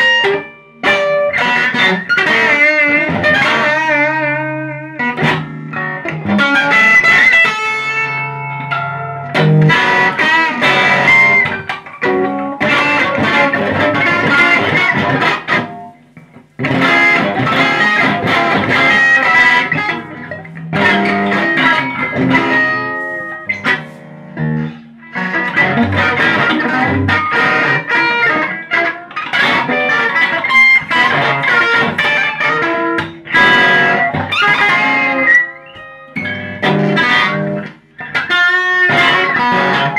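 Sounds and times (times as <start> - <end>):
electric guitar improvisation: 0.0 - 39.9.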